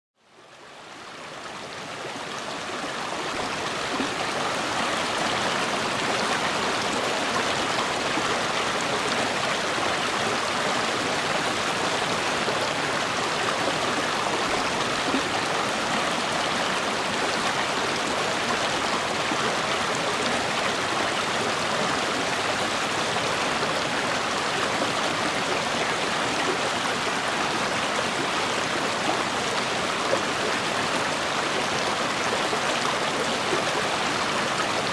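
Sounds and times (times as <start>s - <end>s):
river water rushing: 0.6s - 34.9s.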